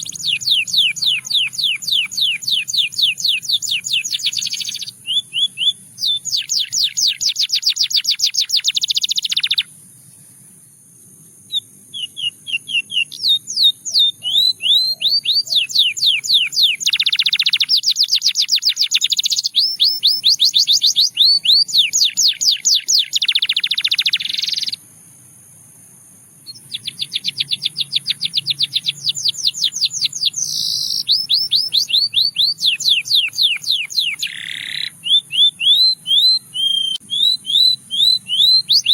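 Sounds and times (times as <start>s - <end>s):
canary singing trills: 0.0s - 10.4s, 11.4s - 24.8s, 26.4s - 38.9s.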